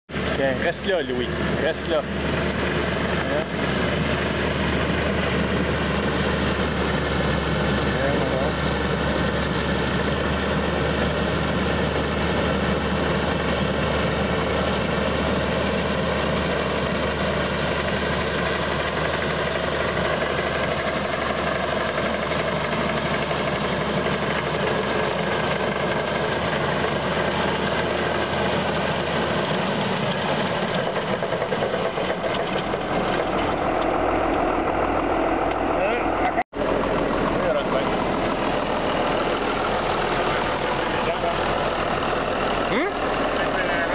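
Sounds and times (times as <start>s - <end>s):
tractor engine under load: 0.1s - 43.9s.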